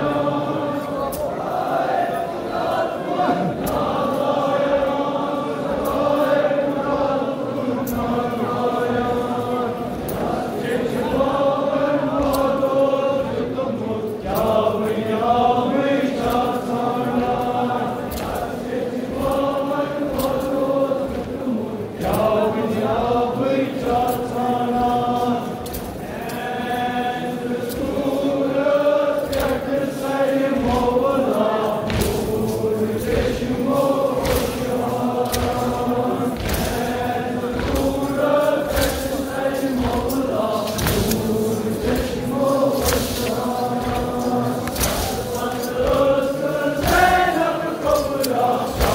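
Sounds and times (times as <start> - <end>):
men chanting together: 0.0 - 48.9.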